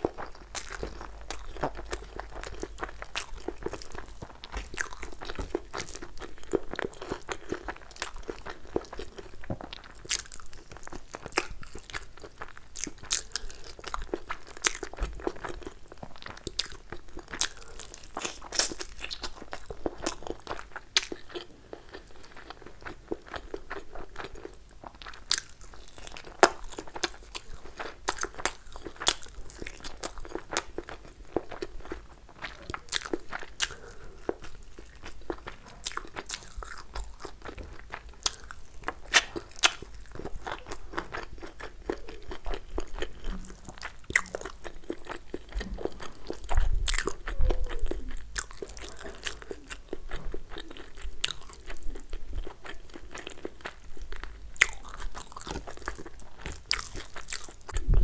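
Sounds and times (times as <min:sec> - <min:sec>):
close chewing and mouth sounds: 0:00.0 - 0:58.0.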